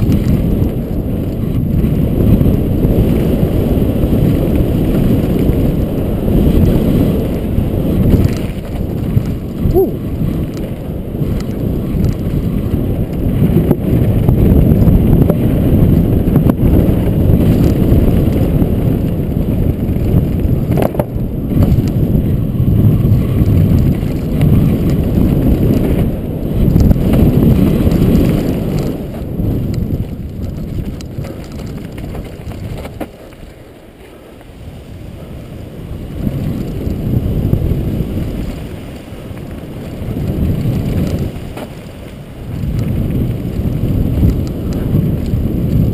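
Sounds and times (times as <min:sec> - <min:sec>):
bike tyres and frame rattling: 0:00.0 - 0:45.9
wind buffeting microphone: 0:00.0 - 0:45.9.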